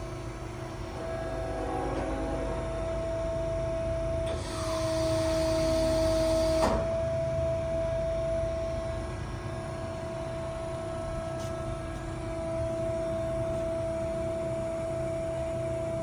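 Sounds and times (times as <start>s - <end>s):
machine drive humming and whining: 0.0s - 16.0s.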